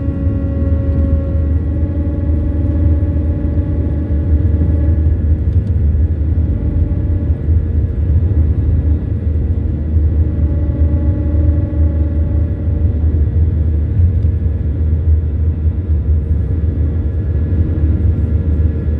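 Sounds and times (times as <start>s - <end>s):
jet engines at takeoff power: 0.0s - 18.9s.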